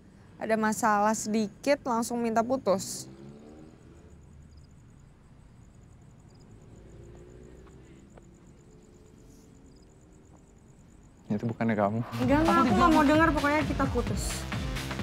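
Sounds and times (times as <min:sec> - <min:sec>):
cricket chirping: 0:00.0 - 0:13.9.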